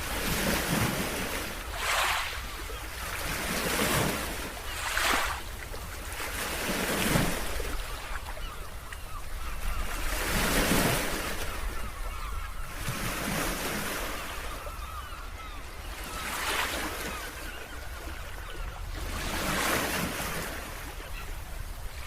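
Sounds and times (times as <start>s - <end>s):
waves breaking and washing in: 0.0s - 22.0s.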